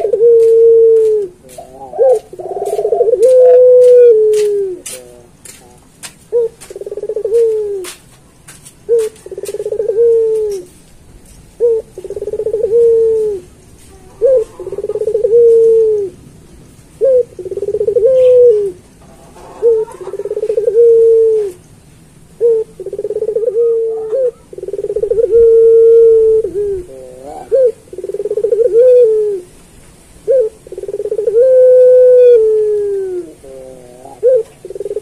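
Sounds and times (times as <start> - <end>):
dove cooing: 0.0 - 8.0, 8.9 - 10.8, 11.5 - 16.2, 17.0 - 21.6, 22.4 - 29.6, 30.2 - 35.0.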